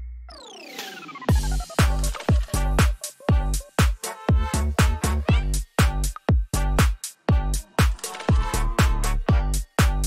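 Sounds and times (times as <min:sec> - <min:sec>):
electronic music with kick drums: 0:00.3 - 0:10.0.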